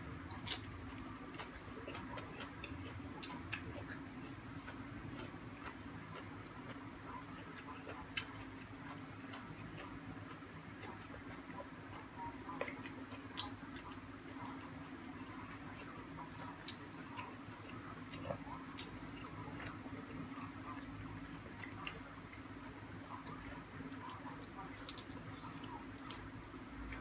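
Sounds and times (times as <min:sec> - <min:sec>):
steady low hum: 0:00.0 - 0:27.0
chewing clicks and smacks: 0:00.3 - 0:22.5, 0:23.1 - 0:27.0.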